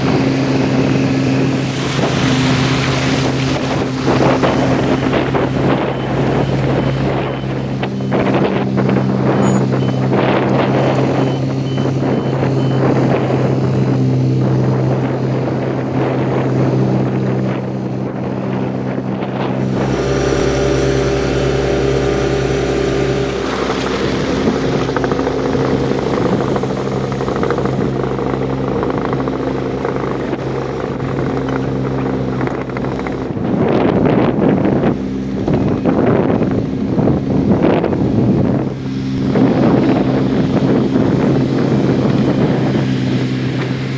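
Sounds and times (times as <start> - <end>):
heavy diesel machines working: 0.0 - 43.9
wind buffeting microphone: 0.0 - 43.9.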